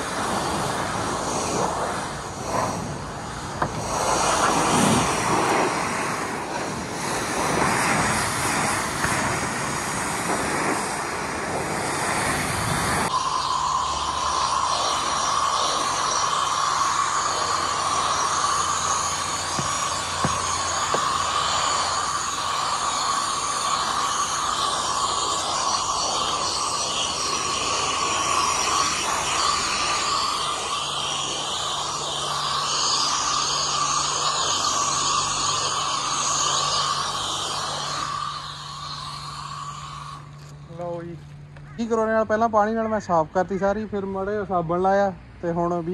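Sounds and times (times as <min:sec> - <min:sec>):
high-pressure water spray: 0:00.0 - 0:41.0
pressure washer drone: 0:00.0 - 0:45.9.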